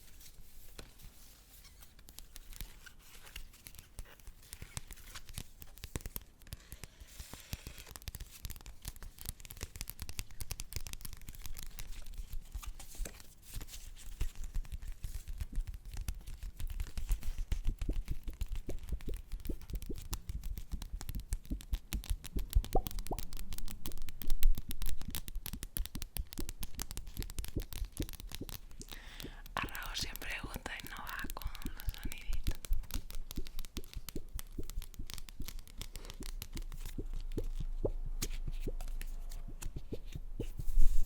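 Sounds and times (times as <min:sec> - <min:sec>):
paper crinkling: 0:00.0 - 0:41.0.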